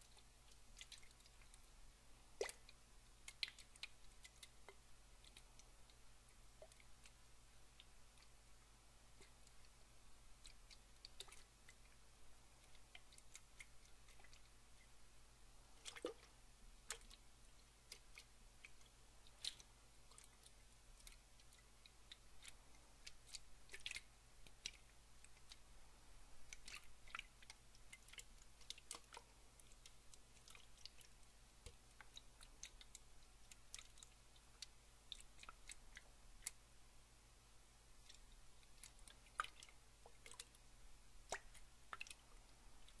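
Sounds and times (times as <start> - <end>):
water dripping and clicking: 0.0 - 15.1, 15.7 - 36.7, 37.9 - 43.0
low steady hum: 0.0 - 43.0.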